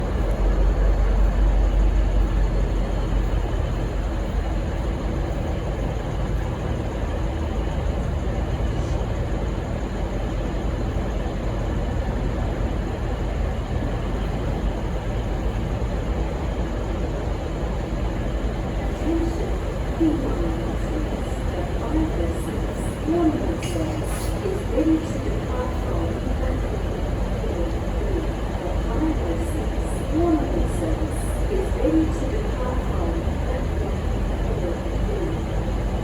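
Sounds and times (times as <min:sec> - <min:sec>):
diesel train engine idling: 0:00.0 - 0:36.0
railway station background noise: 0:00.0 - 0:36.0.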